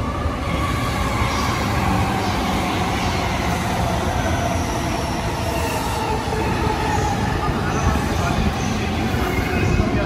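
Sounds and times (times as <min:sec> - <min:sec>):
train wheel and rail rumble: 0:00.0 - 0:10.0.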